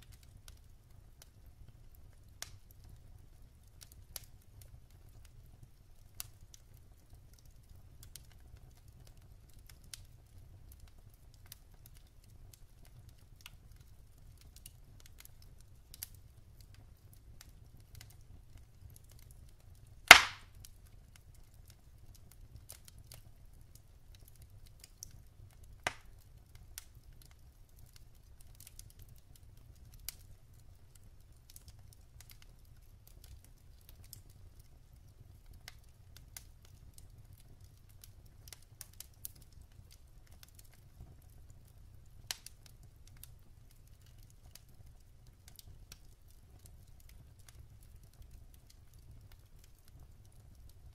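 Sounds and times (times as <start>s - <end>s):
fire popping: 0.0s - 50.9s
wood fire crackling: 0.0s - 50.9s.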